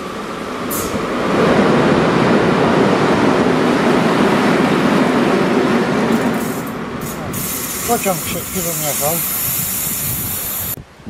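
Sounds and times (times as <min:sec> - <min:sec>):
train passing rumble: 0:00.0 - 0:11.0.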